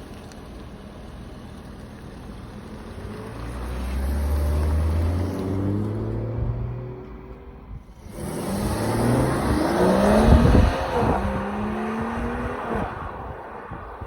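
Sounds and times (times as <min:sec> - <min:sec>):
car engine accelerating: 0:01.0 - 0:13.6.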